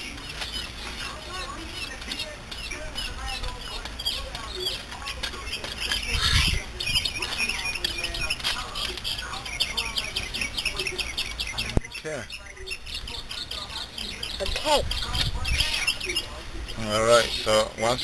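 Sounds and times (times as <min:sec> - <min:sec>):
bird chirping rapidly: 0:00.0 - 0:18.0.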